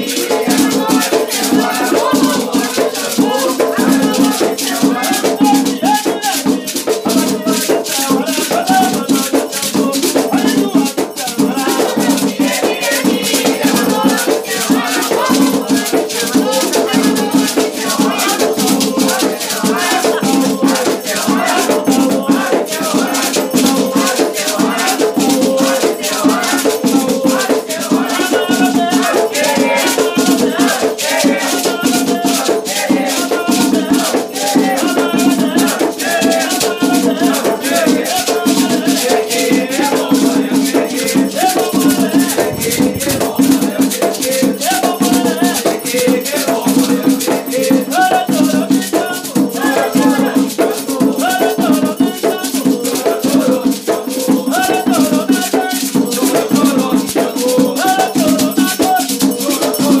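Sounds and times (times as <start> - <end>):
percussion: 0.0 - 60.0
shaken rattle: 0.0 - 60.0
voices singing a chant: 0.0 - 60.0.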